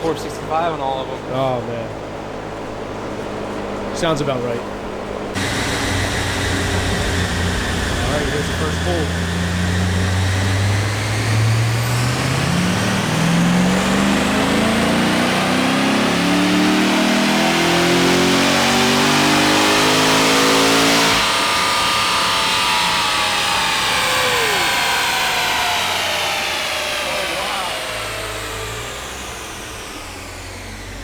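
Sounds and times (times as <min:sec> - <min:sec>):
car engine revving on dyno: 0:05.4 - 0:31.0.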